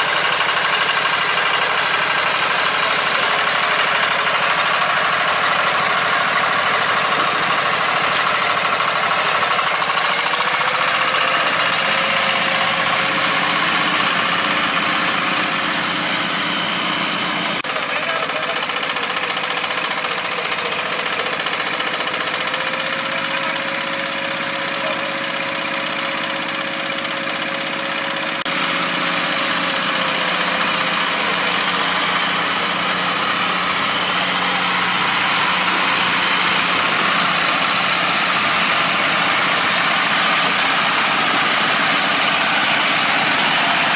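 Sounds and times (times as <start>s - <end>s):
farm machine engine drone: 0.0s - 43.9s.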